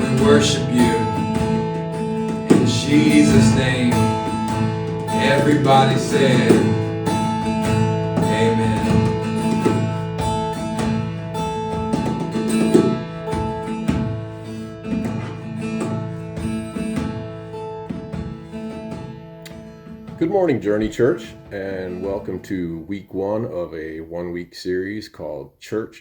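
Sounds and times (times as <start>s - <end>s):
acoustic guitar strumming: 0.0s - 23.3s.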